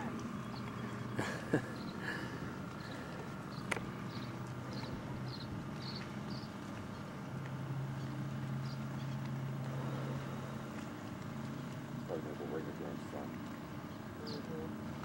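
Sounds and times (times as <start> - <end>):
generator engine hum: 0.0 - 15.0.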